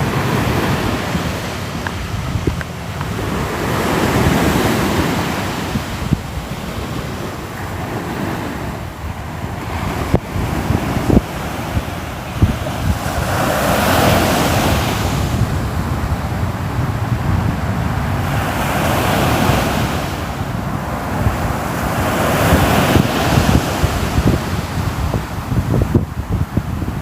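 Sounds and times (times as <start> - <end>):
ocean waves breaking: 0.0 - 27.0
wind buffeting microphone: 0.0 - 27.0.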